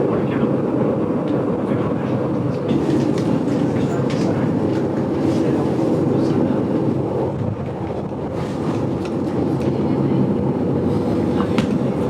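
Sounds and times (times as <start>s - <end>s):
railway carriage running on track: 0.0s - 12.0s.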